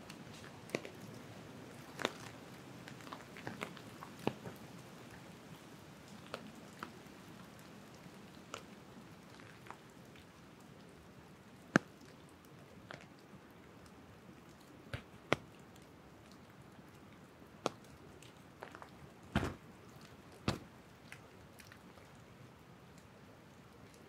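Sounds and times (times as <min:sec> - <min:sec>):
light rain patter: 0:00.0 - 0:24.0
raindrops ticking: 0:00.0 - 0:24.0.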